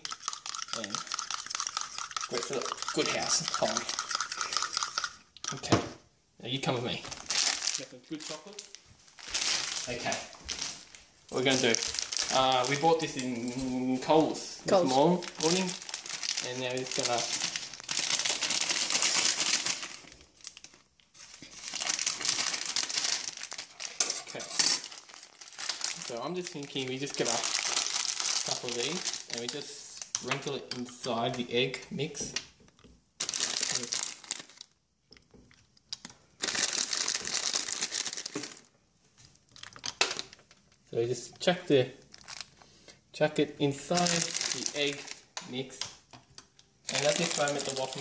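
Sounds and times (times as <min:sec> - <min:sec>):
wrapper crinkling: 0:00.0 - 0:05.7, 0:07.0 - 0:30.4, 0:33.2 - 0:34.8, 0:35.9 - 0:38.7, 0:39.3 - 0:40.9, 0:42.0 - 0:42.6, 0:43.8 - 0:46.0, 0:46.8 - 0:48.0.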